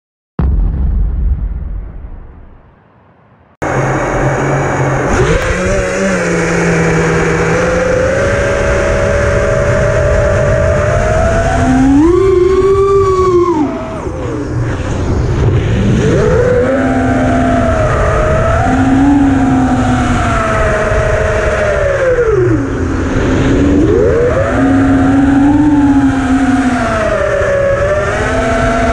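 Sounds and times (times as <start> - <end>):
wind noise: 0.4 - 28.9
drone motors whining: 3.6 - 28.9.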